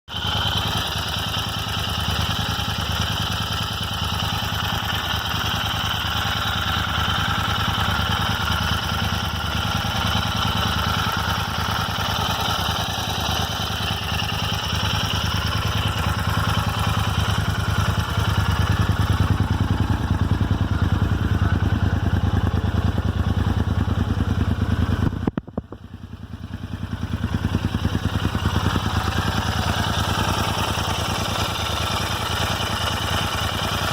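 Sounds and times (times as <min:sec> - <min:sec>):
engine ticking: 0:00.1 - 0:33.9
motorcycle engine idling: 0:00.1 - 0:33.9.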